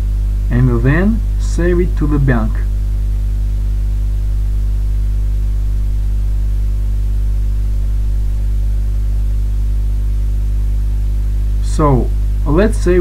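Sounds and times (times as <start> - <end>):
electrical mains hum: 0.0 - 13.0
faint hiss: 0.0 - 13.0.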